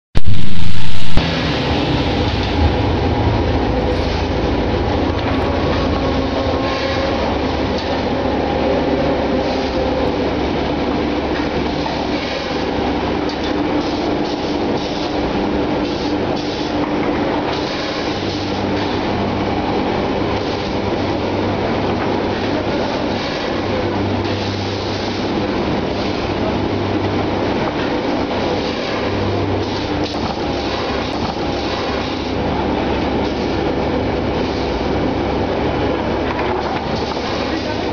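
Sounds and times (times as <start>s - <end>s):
machinery clatter: 0.2s - 37.9s
production line machinery rumbling: 0.2s - 37.9s.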